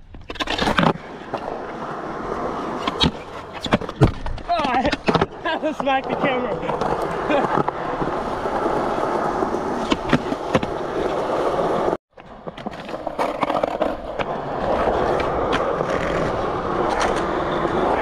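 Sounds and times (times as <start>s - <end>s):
skateboard wheels rolling on concrete: 0.0s - 18.0s
skateboard clacks: 2.8s - 18.0s.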